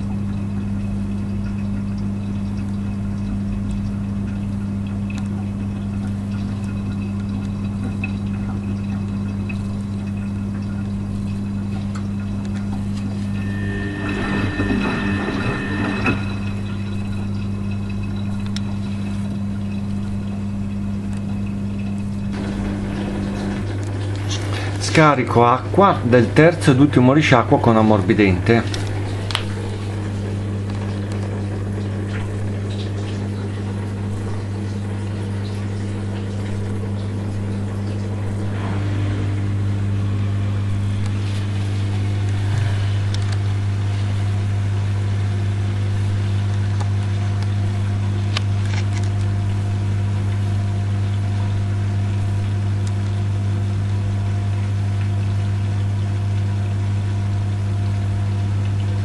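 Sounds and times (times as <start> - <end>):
drain pump humming: 0.0 - 59.0.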